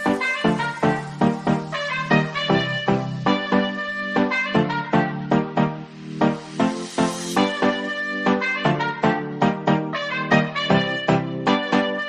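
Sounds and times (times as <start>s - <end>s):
background music with quick pitched notes: 0.0s - 12.0s.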